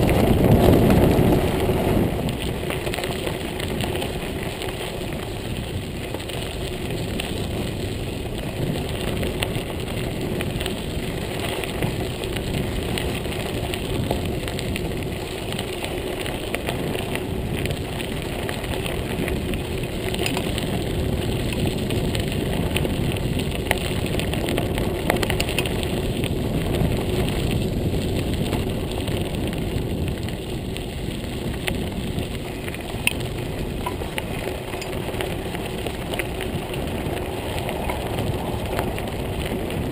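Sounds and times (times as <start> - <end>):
bike clicking and rattling: 0.0 - 39.9
bike tyres crunching on gravel: 0.0 - 39.9.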